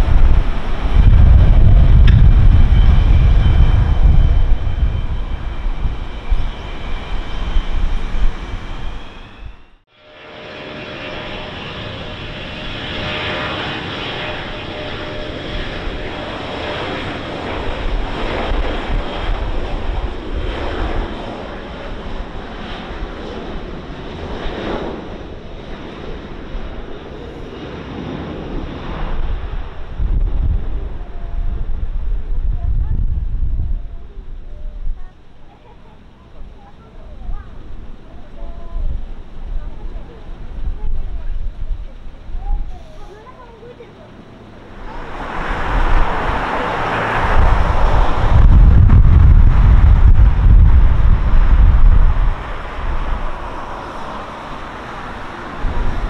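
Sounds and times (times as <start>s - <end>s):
heavy low rumble: 0.0s - 22.4s, 27.0s - 35.4s, 36.1s - 56.0s
jet engine roar with whine: 0.0s - 56.0s.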